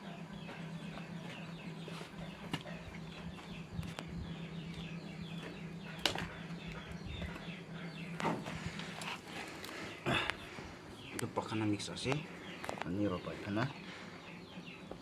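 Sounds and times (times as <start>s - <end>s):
birds chirping in falling notes: 0.0s - 15.0s
steady low hum: 0.0s - 15.0s.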